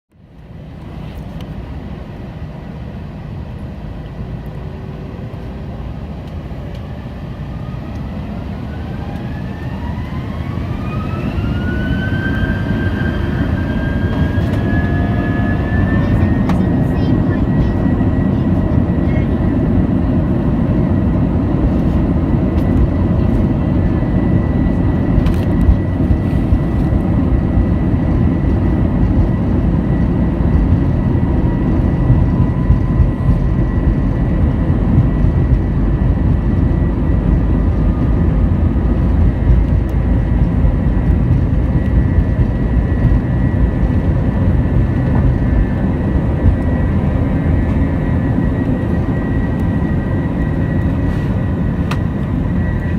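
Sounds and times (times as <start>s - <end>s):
deep airframe rumble: 0.1s - 52.9s
steady high whine: 0.1s - 52.9s
jet engines roaring: 0.2s - 52.9s.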